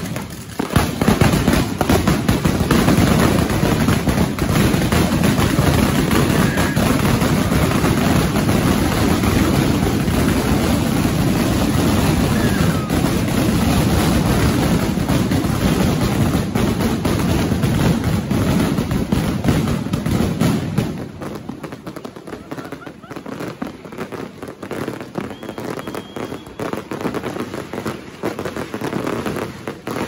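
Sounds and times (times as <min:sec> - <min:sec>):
firecracker barrage: 0:00.0 - 0:30.0.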